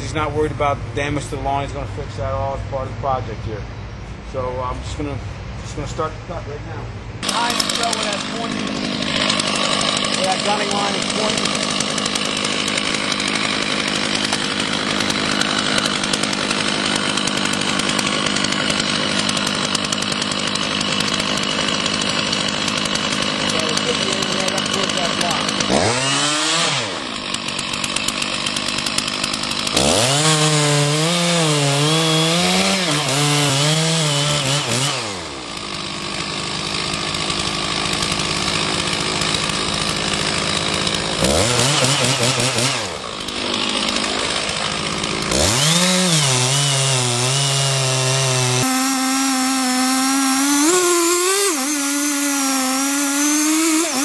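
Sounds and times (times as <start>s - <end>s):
chainsaw cutting wood: 7.2s - 54.0s.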